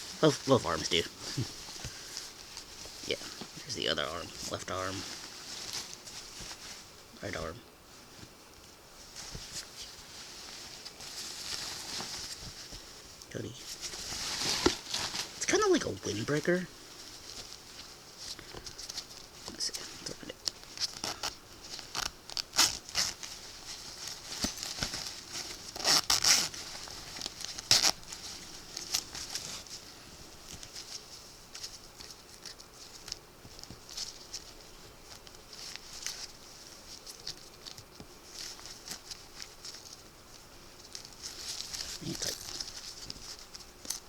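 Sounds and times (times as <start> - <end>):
windbreaker fabric rustling: 0.0 - 44.0.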